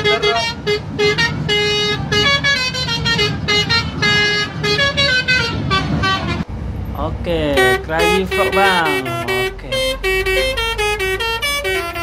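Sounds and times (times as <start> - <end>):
musical air horn melody: 0.0 - 6.4, 7.5 - 12.0
road and engine rumble: 0.0 - 12.0.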